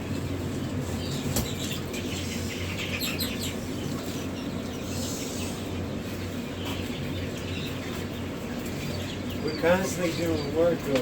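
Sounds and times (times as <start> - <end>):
chicks peeping: 0.0 - 11.0
steady low hum: 0.0 - 11.0.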